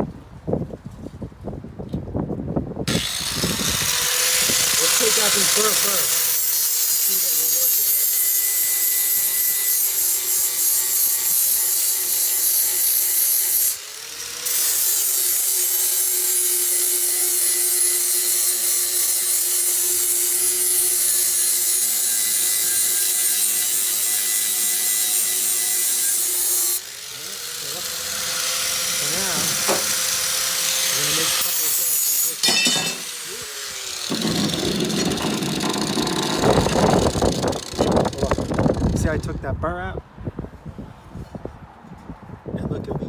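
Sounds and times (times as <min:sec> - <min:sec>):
grinder grinding steel blade: 0:02.9 - 0:39.3.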